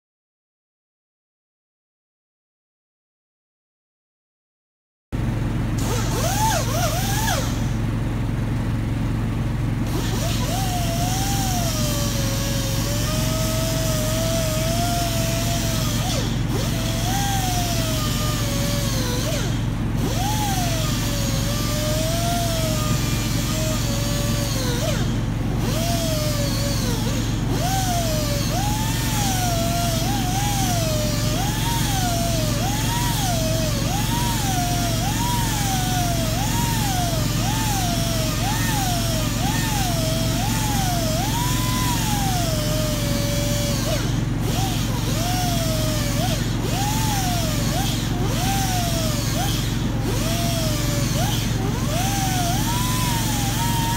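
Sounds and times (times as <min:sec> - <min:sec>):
air tool whining on metal: 0:05.2 - 0:53.9
steady low hum: 0:05.2 - 0:53.9.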